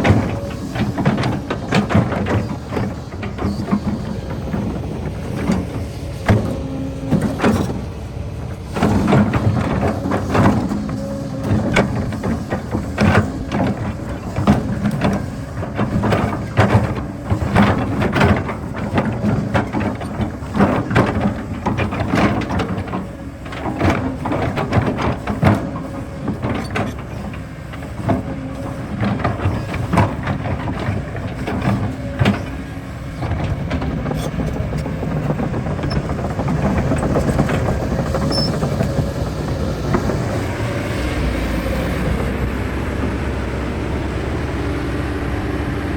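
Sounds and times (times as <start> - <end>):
digging knocks and clanks: 0.0 - 40.5
excavator diesel engine under load: 0.0 - 45.9.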